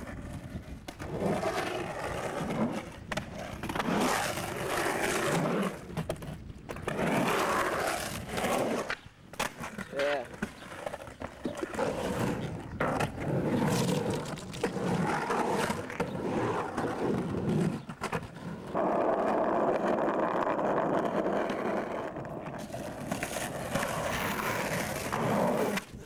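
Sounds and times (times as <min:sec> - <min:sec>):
skateboard clacks: 0:00.0 - 0:26.0
skateboard wheels rolling on concrete: 0:00.0 - 0:26.0.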